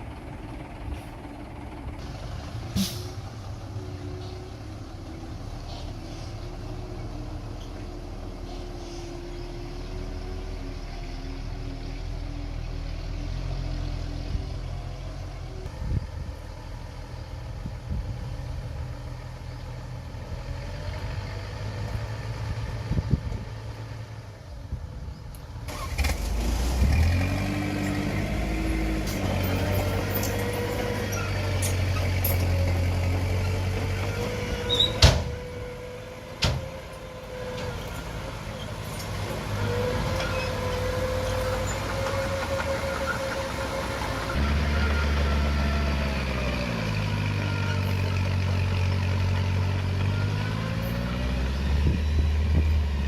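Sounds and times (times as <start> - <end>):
diesel engine under load: 0.0 - 53.0.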